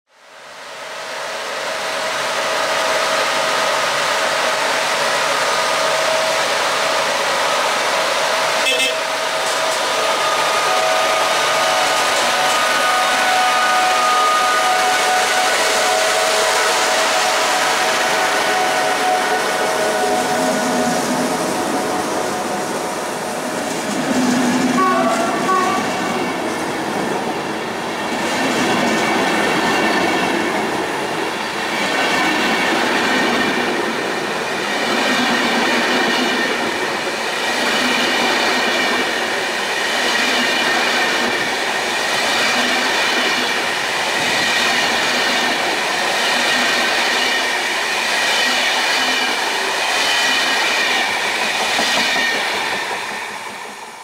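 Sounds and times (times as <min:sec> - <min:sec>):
train wheels rumbling on rail: 0:00.2 - 0:54.0.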